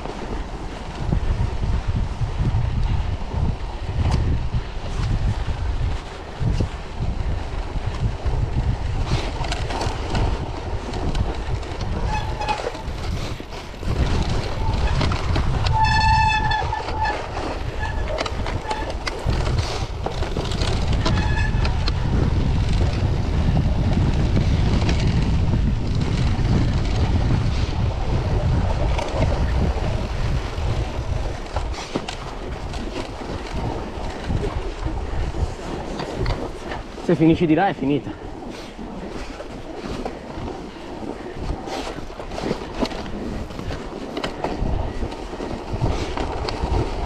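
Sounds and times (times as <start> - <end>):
bike tyres on snow: 0.0 - 47.0
wind rumbling on microphone: 0.0 - 47.0.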